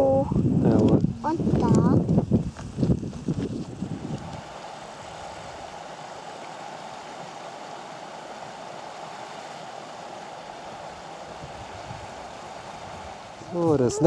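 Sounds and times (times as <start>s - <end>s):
stream rippling over stones: 2.6s - 14.0s.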